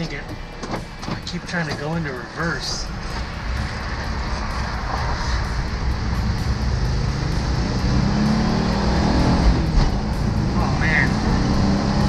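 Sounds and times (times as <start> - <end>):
road rumble: 0.0 - 12.0
bus engine accelerating: 0.2 - 12.0.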